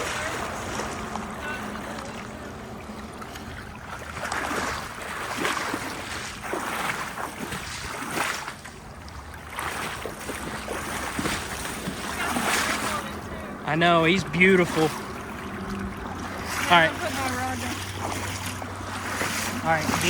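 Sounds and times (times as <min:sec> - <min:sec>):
low rumble of flowing water: 0:00.0 - 0:20.0
river water splashing: 0:00.0 - 0:20.0.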